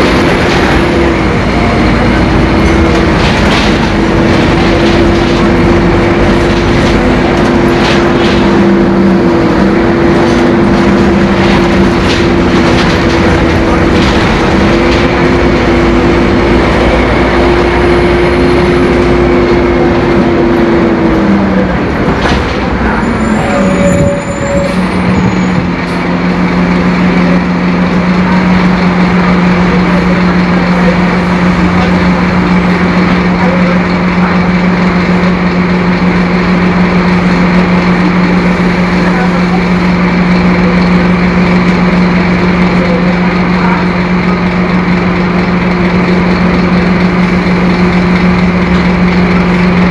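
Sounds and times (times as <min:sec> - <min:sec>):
bus engine running: 0:00.0 - 0:49.9.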